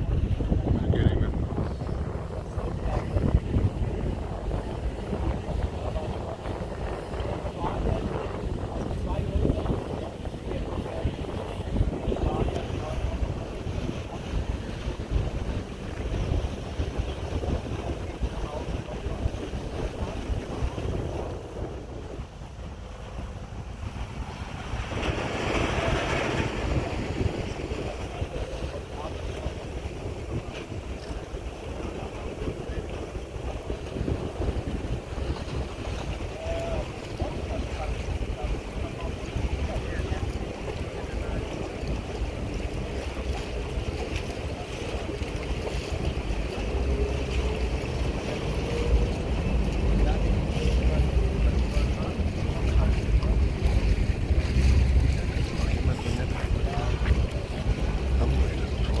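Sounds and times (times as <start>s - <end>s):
harbour water rushing: 0.0s - 59.0s
low rumble and hiss: 0.0s - 59.0s
wind buffeting microphone: 0.0s - 59.0s.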